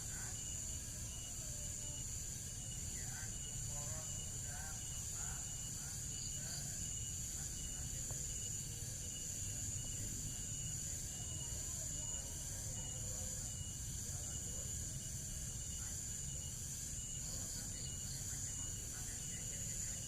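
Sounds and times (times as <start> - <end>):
insect high-pitched drone: 0.0 - 20.0
repeating insect chirp: 0.0 - 20.0.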